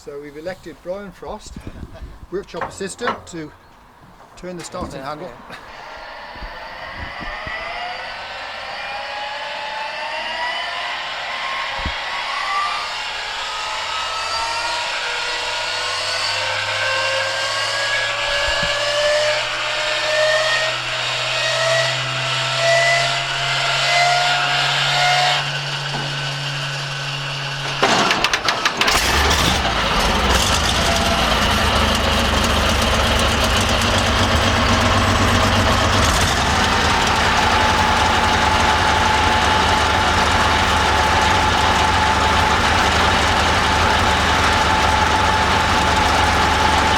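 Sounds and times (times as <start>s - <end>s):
inertia starter whining: 0.0s - 46.9s
tank engine running: 0.0s - 46.9s.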